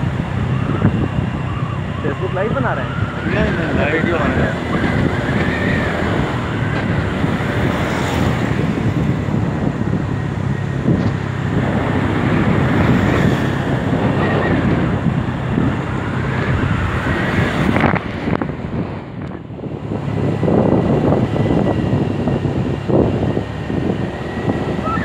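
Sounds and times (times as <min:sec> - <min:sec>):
scooter engine running: 0:00.0 - 0:25.0
wind on microphone: 0:00.0 - 0:25.0.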